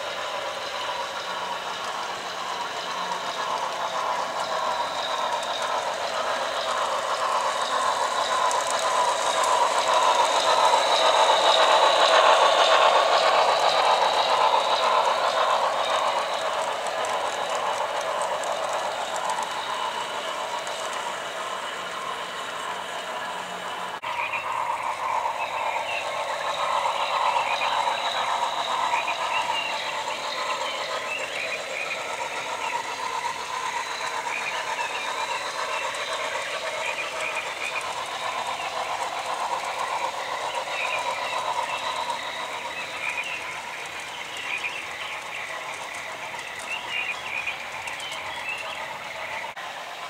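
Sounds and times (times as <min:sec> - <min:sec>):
model train wheels rattling on track: 0:00.0 - 0:50.0.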